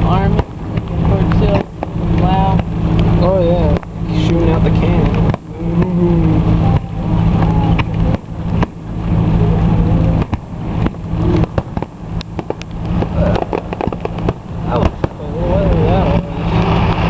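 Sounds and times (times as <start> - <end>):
fireworks bangs and crackling: 0.0 - 6.0, 6.6 - 17.0
steady low hum: 0.0 - 17.0.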